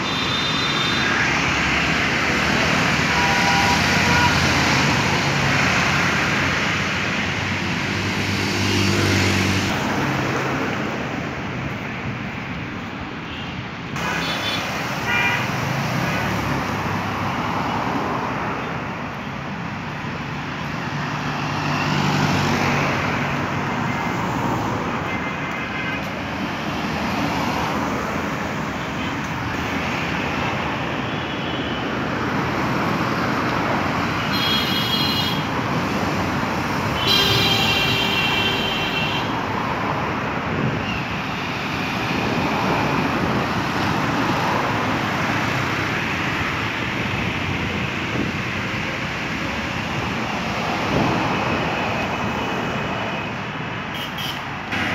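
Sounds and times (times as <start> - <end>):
city road traffic: 0.0 - 54.9
vehicles passing: 0.0 - 54.9.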